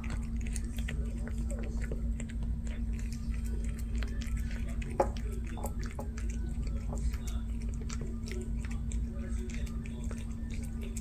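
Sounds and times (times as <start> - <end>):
cat chewing wet food: 0.0 - 11.0
low room hum: 0.0 - 11.0.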